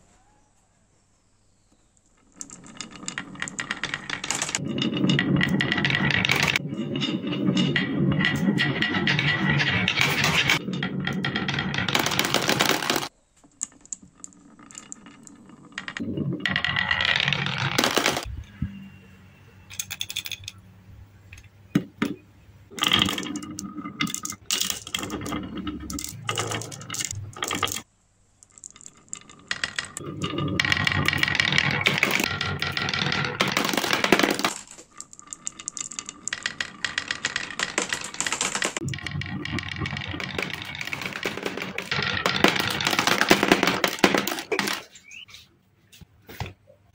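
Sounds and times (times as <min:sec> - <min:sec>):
marbles clattering on wooden tracks: 0:02.0 - 0:18.8, 0:19.7 - 0:20.6, 0:21.3 - 0:45.3.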